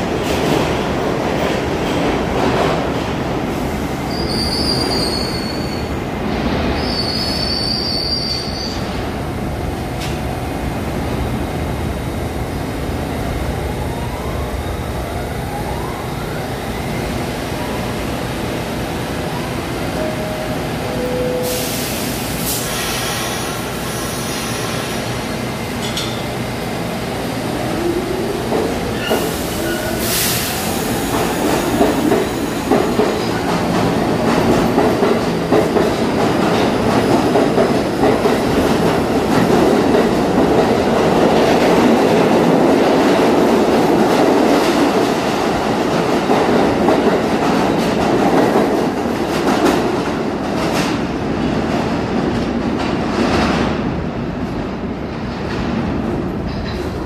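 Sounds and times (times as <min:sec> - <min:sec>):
subway train rumbling: 0:00.0 - 0:57.0.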